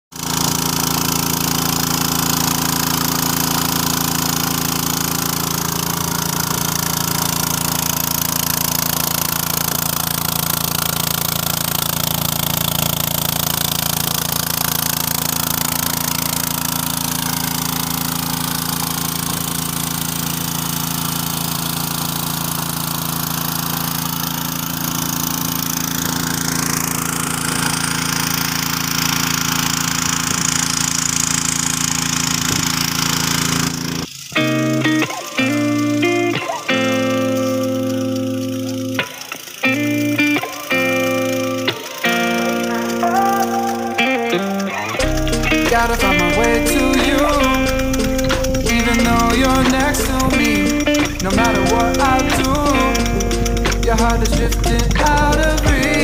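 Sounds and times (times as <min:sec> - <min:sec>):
fire pump engine running: 0:00.1 - 0:56.0
sprinkler water jet hiss: 0:00.2 - 0:56.0.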